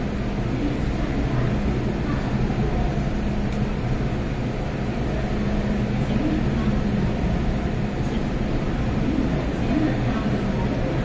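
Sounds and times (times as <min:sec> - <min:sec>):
faint voices: 0:00.0 - 0:11.0
train humming at platform: 0:00.0 - 0:11.0.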